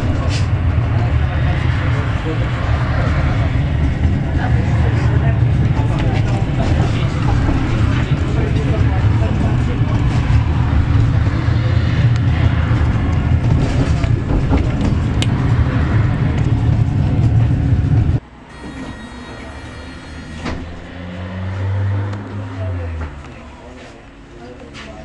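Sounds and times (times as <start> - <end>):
car passing: 0.0 - 25.0
road traffic: 0.0 - 25.0
tram rumbling on track: 0.0 - 25.0.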